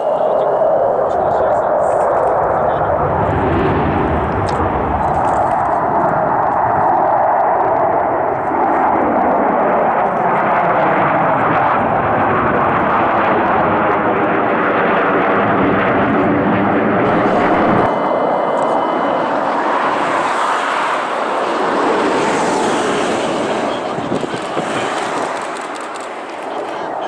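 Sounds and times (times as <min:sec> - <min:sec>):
fighter jets roaring overhead: 0:00.0 - 0:27.0.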